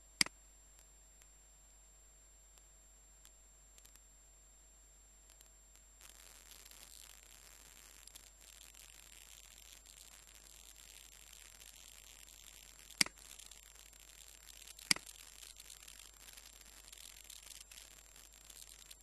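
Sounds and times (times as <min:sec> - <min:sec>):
faint recording hiss: 0:00.0 - 0:19.0.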